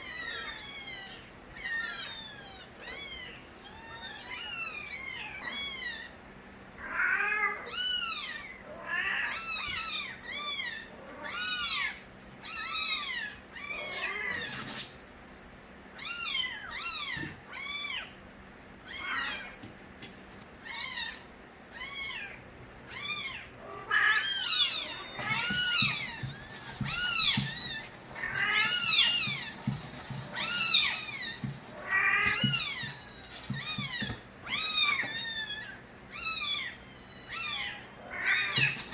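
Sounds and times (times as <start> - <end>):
kittens meowing: 0.0 - 6.2, 6.8 - 14.8, 18.9 - 19.6, 20.6 - 38.9.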